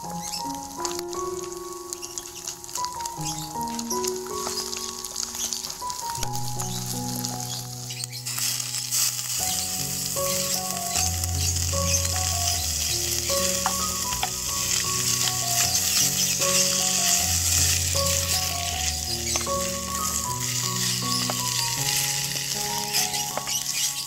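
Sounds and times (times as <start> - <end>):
fish sizzling in a pan: 0.0 - 24.0
soft background music: 0.0 - 24.0
wooden spatula stirring: 0.6 - 24.0.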